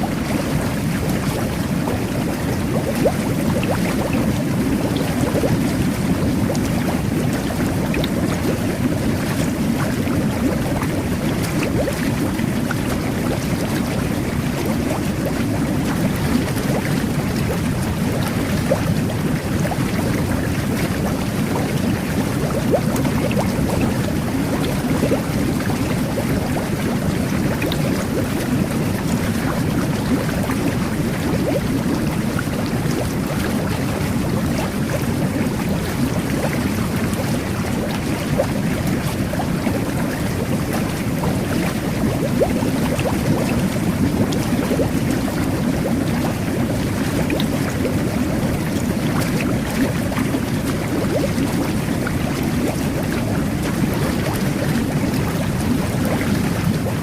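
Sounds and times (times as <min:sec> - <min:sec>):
whirlpool tub jets bubbling: 0:00.0 - 0:57.0.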